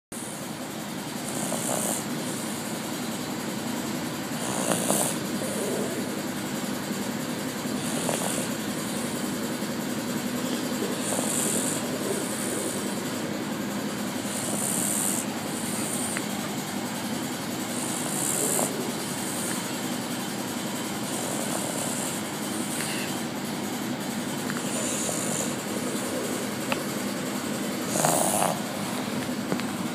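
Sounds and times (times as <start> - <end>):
baby snoring: 0.2 - 3.2, 4.2 - 29.1.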